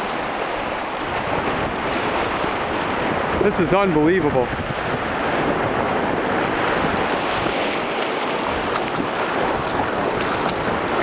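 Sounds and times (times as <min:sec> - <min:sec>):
waves washing over pebbles: 0:00.0 - 0:11.0
wind: 0:00.0 - 0:11.0.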